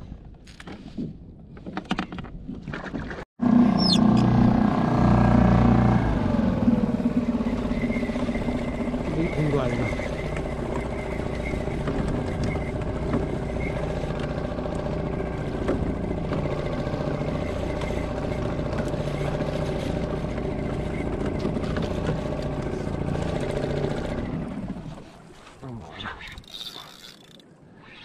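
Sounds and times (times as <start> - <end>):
outboard motor running: 3.4 - 27.4.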